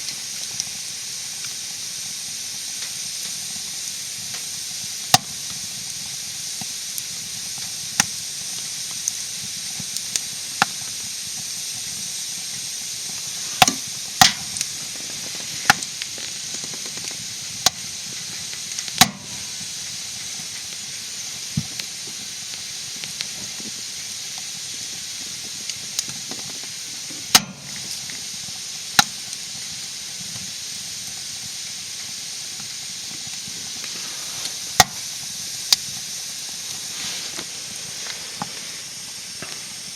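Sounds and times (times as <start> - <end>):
steady fire hiss: 0.0 - 39.9
wood fire crackling and popping: 0.0 - 39.9.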